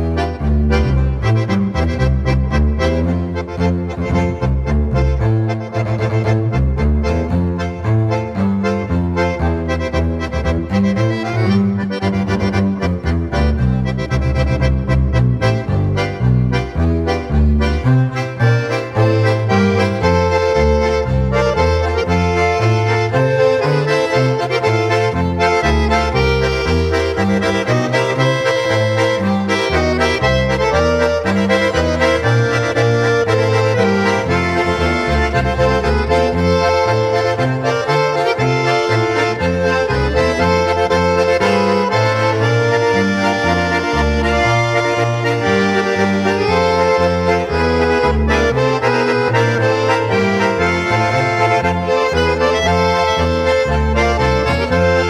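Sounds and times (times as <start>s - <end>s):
instrumental background music: 0.0s - 55.0s.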